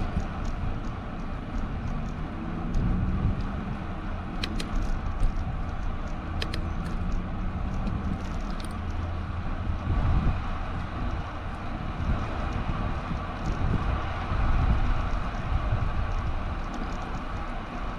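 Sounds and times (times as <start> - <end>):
sharp clicks and rattles: 0.0 - 9.9, 10.8 - 17.9
bicycle road rumble: 0.0 - 17.9
wind noise: 0.0 - 17.9.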